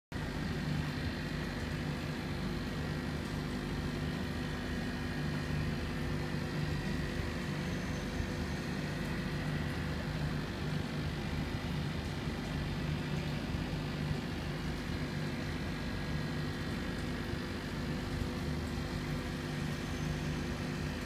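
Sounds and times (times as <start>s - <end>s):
aquarium pump humming: 0.1s - 21.0s.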